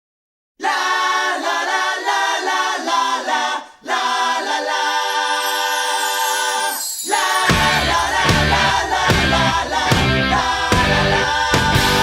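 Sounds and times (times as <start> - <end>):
a cappella vocal harmony: 0.6 - 12.0.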